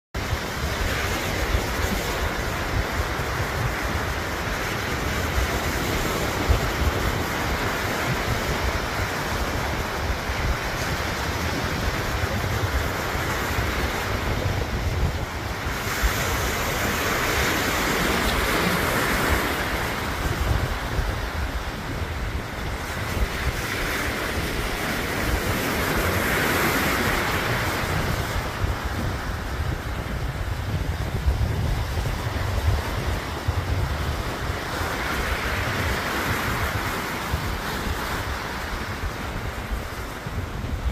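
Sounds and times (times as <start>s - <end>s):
surf breaking on a beach: 0.2s - 40.9s
wind rumble on microphone: 0.2s - 40.9s.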